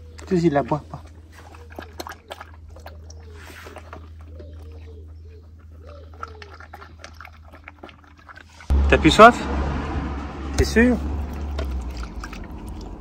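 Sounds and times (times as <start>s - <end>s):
dog lapping water: 0.0s - 8.7s, 11.1s - 13.0s.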